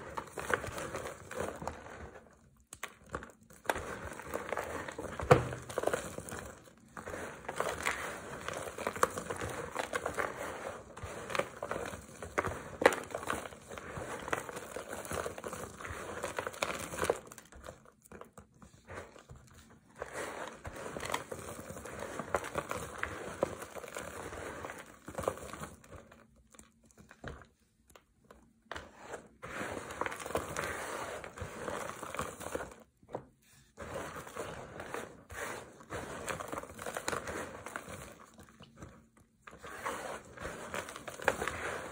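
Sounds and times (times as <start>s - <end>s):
soap flakes crunching by hand: 0.0s - 28.7s, 33.8s - 41.9s.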